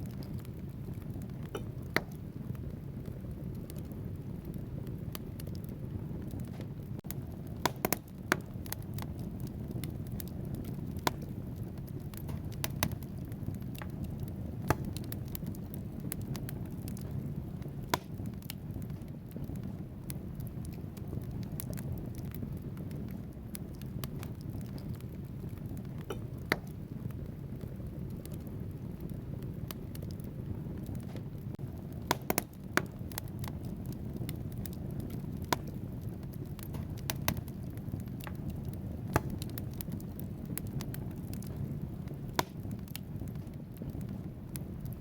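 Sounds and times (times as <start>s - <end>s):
fire flames rumbling: 0.0s - 45.0s
logs crackling and popping: 0.0s - 45.0s.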